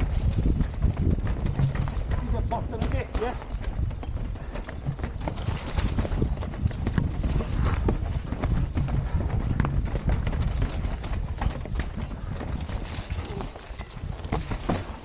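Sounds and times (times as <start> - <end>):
bike tyres rattling over stones: 0.0 - 15.0
wind rumble on microphone: 0.0 - 15.0.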